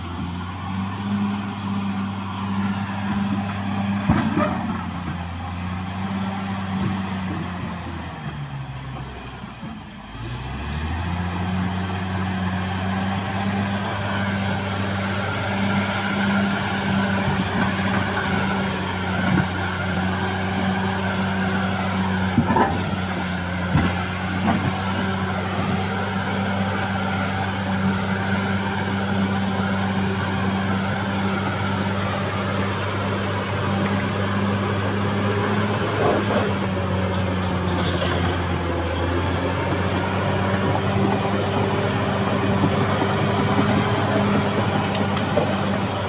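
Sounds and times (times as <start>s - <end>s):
bulldozer diesel engine drone: 0.0s - 46.0s.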